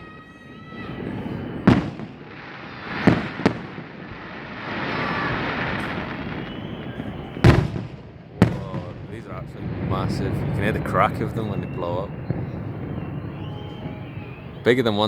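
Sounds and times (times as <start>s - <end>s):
firework shells bursting: 0.0s - 14.9s.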